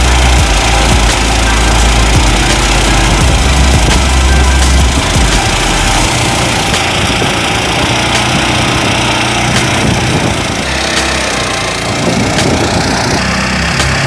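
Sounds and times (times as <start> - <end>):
rice thresher engine running: 0.0 - 14.0
sharp ticks: 0.0 - 14.0.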